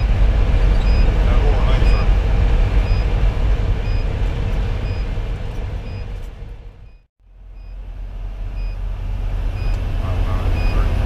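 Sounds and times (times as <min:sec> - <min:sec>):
road and tyre noise: 0:00.0 - 0:11.0
truck cab engine rumble: 0:00.0 - 0:11.0.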